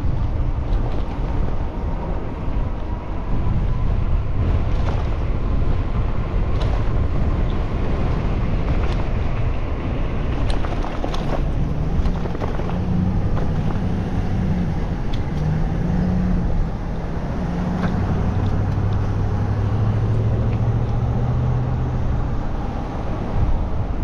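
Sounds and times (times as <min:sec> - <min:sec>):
road rumble: 0:00.0 - 0:24.0
vehicle engine humming: 0:00.0 - 0:24.0
wind: 0:00.0 - 0:24.0.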